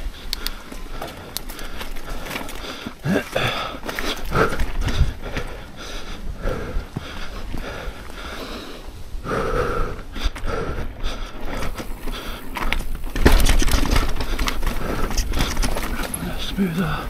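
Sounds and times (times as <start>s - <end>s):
person breathing hard: 0.0s - 13.2s, 13.8s - 17.0s
bike rattling on rough trail: 0.0s - 17.0s.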